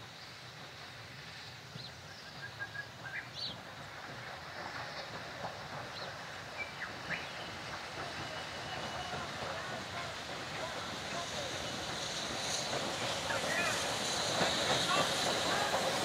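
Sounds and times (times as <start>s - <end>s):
distant steam train rumble: 0.0s - 16.0s.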